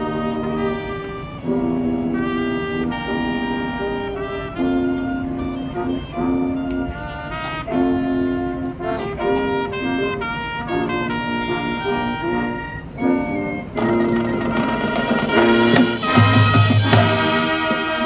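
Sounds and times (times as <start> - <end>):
brass held notes: 0.0 - 18.0
marching band playing: 0.0 - 18.0.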